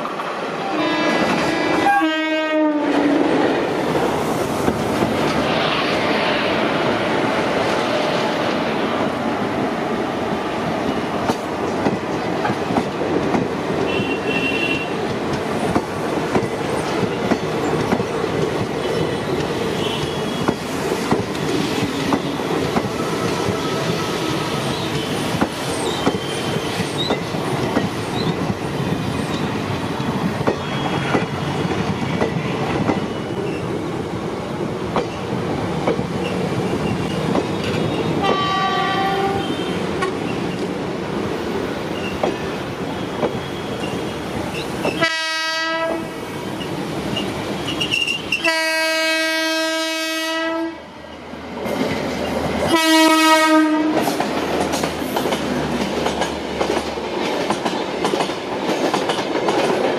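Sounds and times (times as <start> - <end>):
train wheels clattering over rails: 3.0 - 33.7, 34.9 - 40.8, 41.4 - 45.2, 51.6 - 59.9.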